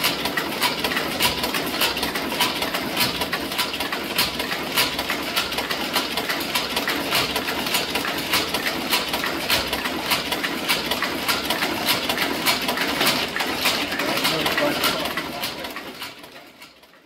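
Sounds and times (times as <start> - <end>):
type casting machine clattering: 0.0 - 17.0.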